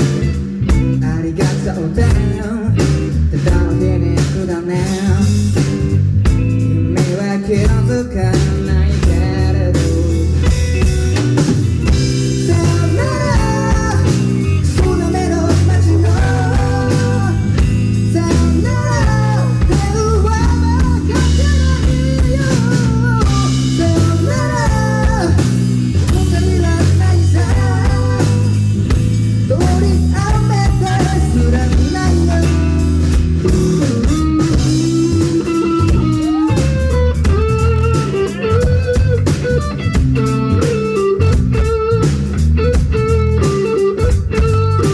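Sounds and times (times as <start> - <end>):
bass guitar: 0.0 - 44.9
drum kit: 0.0 - 44.9
electric guitar: 0.0 - 44.9.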